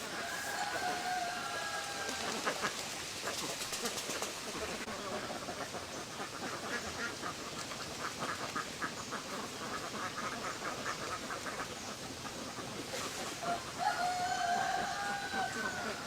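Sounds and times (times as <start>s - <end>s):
ducks quacking: 0.0s - 13.7s.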